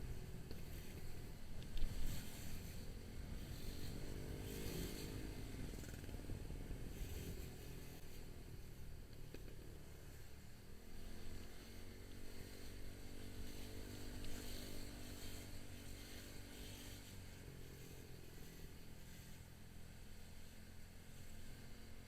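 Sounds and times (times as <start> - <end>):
motorcycle engine running: 0.0 - 22.0
road and air noise hiss: 0.0 - 22.0.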